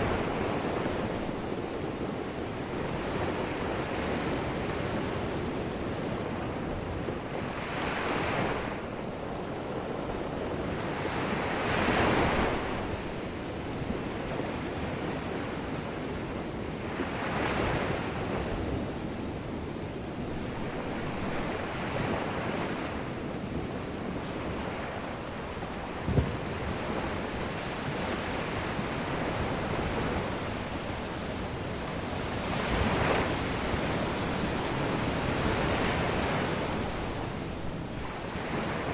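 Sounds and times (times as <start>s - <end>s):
waves washing ashore: 0.0s - 38.9s.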